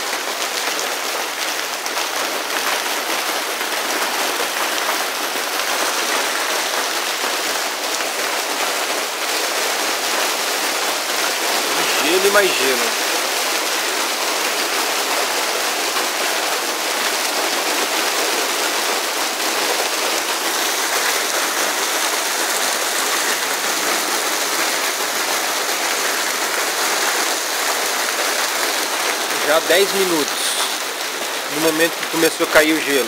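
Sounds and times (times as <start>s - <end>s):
hail falling heavily: 0.0s - 33.0s.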